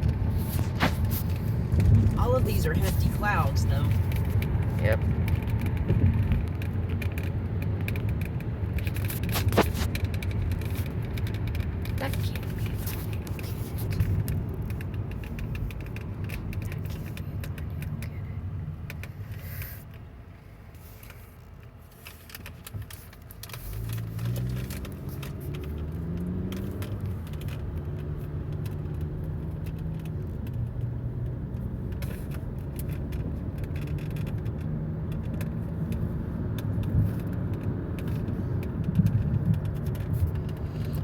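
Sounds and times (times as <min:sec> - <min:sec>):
car engine accelerating and cruising: 0:00.0 - 0:41.0
road noise: 0:00.0 - 0:41.0.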